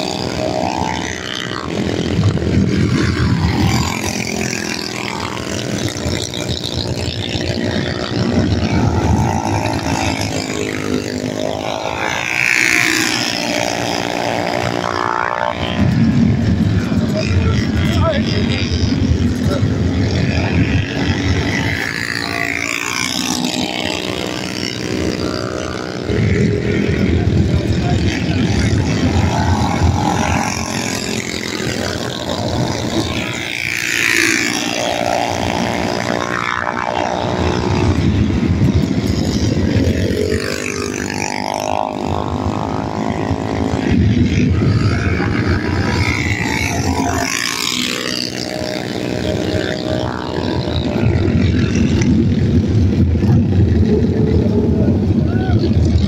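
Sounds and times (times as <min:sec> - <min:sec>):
minibike engines racing: 0:00.0 - 0:56.0.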